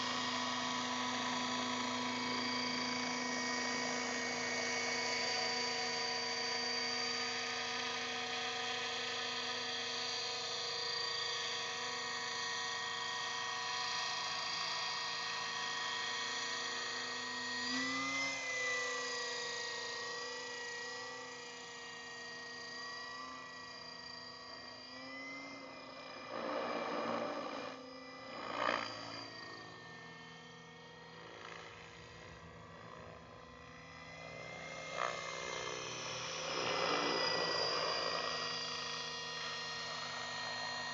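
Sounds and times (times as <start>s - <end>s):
radio-controlled helicopter whining: 0.0s - 40.9s.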